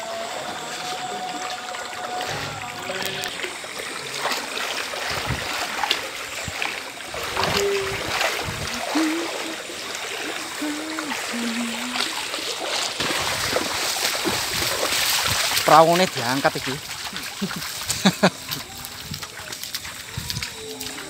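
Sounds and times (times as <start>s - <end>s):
people wading through water: 0.0s - 21.0s.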